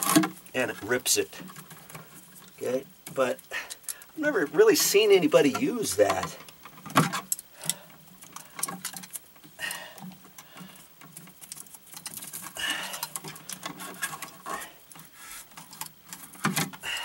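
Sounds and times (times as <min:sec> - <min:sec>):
scratching and rustling: 0:00.0 - 0:17.0.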